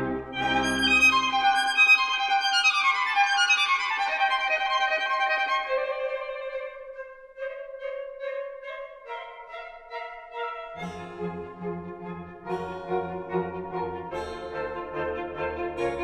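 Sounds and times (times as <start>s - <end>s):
violin background music: 0.0s - 16.0s.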